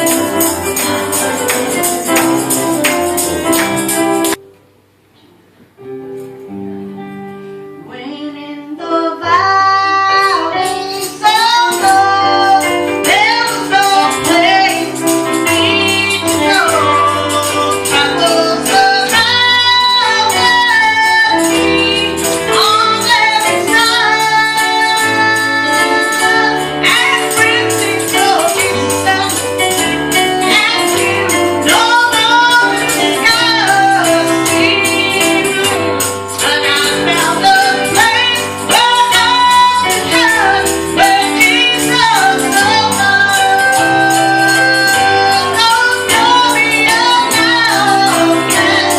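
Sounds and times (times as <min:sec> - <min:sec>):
tambourine shaking: 0:00.0 - 0:04.4, 0:10.4 - 0:48.9
instrumental accompaniment with bass: 0:00.0 - 0:08.0, 0:09.4 - 0:48.9
woman singing: 0:07.8 - 0:48.9.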